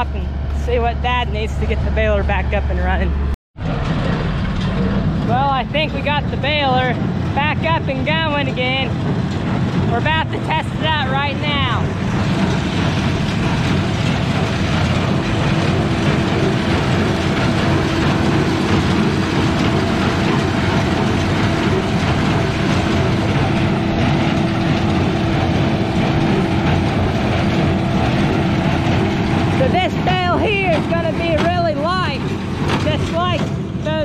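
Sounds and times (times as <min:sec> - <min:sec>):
square baler running: 0:00.0 - 0:34.0
steady hum: 0:00.0 - 0:34.0
tractor engine: 0:00.0 - 0:34.0.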